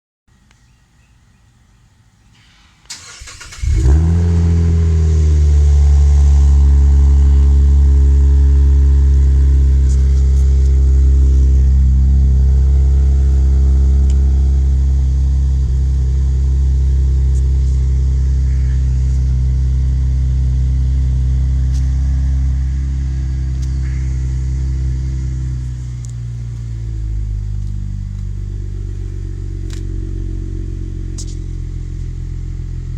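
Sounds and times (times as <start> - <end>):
car engine idling: 2.5 - 32.9.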